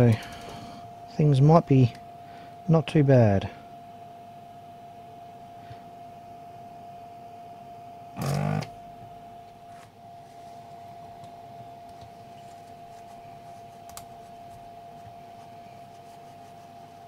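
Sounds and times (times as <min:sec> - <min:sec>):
faint high hum: 0:00.0 - 0:17.0
vacuum pump running: 0:00.0 - 0:17.0.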